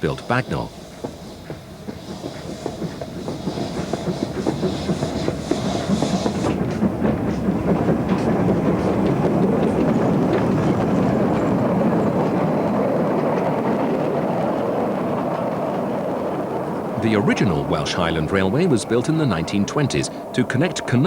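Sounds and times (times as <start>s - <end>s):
steam train running: 0.0s - 21.0s.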